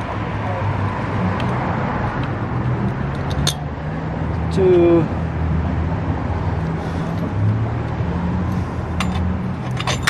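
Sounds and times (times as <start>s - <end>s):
motor traffic passing: 0.0s - 10.0s.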